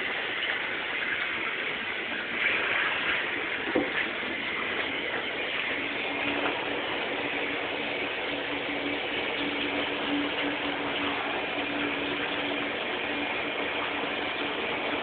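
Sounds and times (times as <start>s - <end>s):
shower water spraying into bathtub: 0.0s - 15.0s.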